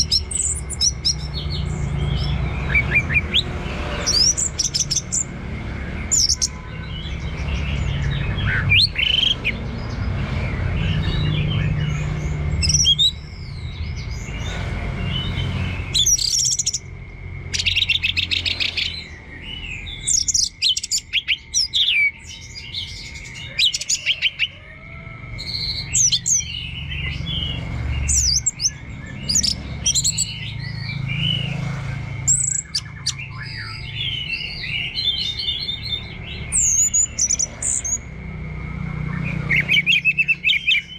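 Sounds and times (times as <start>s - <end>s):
thrush singing: 0.0s - 40.9s.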